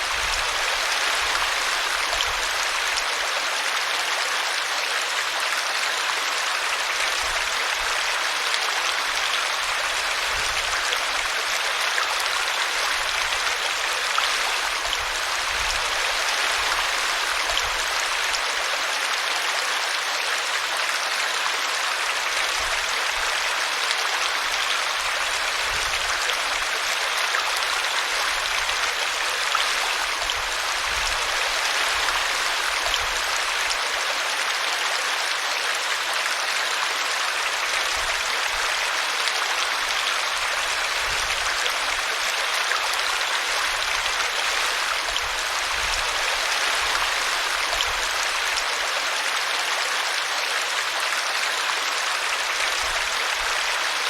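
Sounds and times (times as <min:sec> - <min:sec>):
brook babbling: 0:00.0 - 0:54.0.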